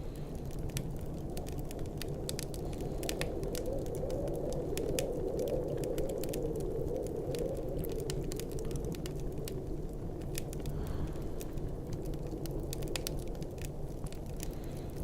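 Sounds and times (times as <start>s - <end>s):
snowstorm wind rumbling: 0.0s - 15.0s
wood fire crackling and popping: 0.0s - 15.0s.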